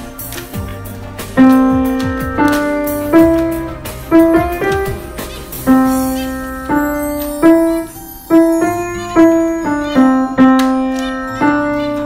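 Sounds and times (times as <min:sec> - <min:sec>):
slow upright piano melody: 0:00.0 - 0:12.0.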